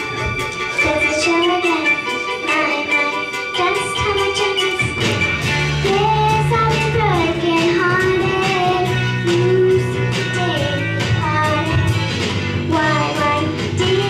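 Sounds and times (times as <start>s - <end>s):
instrumental accompaniment: 0.0s - 14.0s
girl singing: 0.8s - 5.0s, 5.8s - 12.0s, 12.7s - 14.0s.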